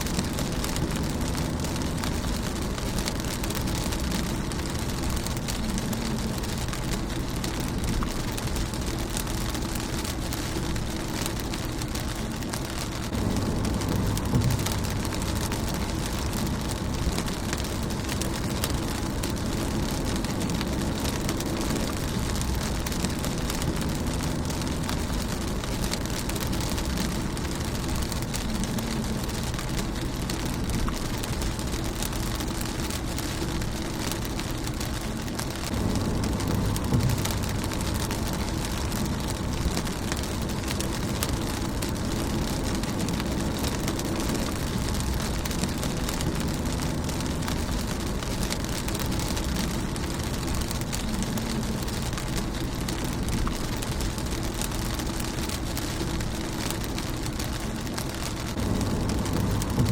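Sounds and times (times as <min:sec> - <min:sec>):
low rumble: 0:00.0 - 0:59.9
rain on a car windshield: 0:00.0 - 0:59.9.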